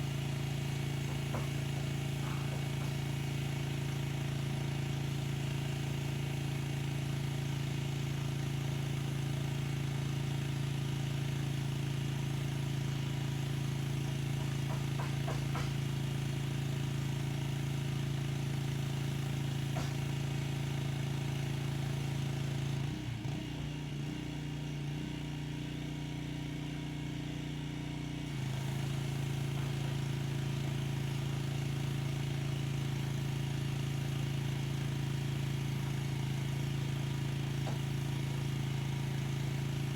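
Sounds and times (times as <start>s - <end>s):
pressure washer running: 0.0s - 24.2s, 28.3s - 39.9s.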